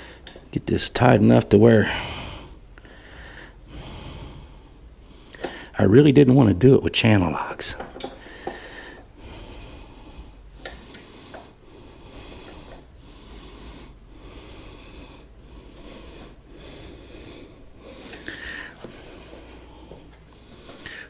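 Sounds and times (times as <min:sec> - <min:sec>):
man breathing hard through nose: 0:00.0 - 0:00.5, 0:01.7 - 0:05.8, 0:07.8 - 0:21.0.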